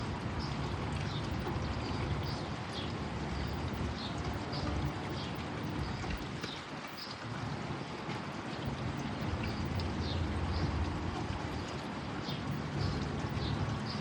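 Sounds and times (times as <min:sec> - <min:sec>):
small birds chirping: 0:00.4 - 0:07.2, 0:08.6 - 0:14.0.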